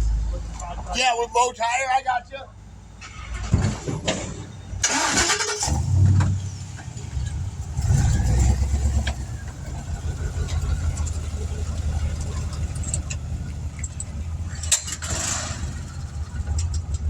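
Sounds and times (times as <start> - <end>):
engine cranking and idling: 3.0 - 17.0.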